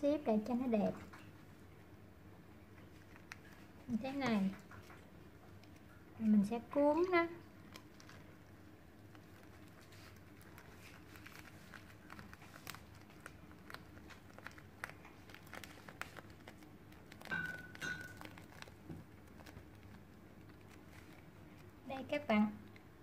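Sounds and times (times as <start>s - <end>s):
hands rolling rice paper: 2.8s - 23.0s.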